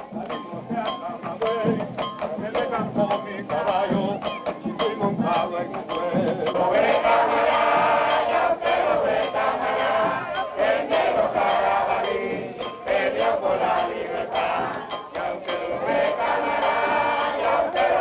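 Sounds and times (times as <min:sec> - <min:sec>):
group of voices singing: 0:00.0 - 0:18.0
music with percussive beat: 0:00.0 - 0:18.0.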